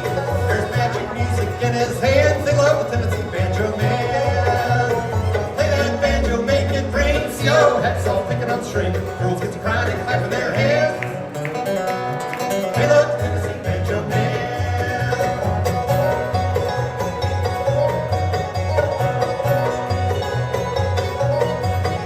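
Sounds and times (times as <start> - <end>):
banjo picking: 0.0 - 22.0
bass line: 0.0 - 22.0
guitar picking: 0.0 - 22.0.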